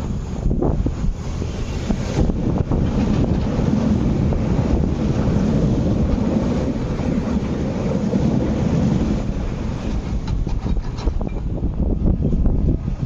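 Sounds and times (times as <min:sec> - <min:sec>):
train wheels rumbling on rail: 0:00.0 - 0:13.0
wind buffeting microphone: 0:00.0 - 0:13.0.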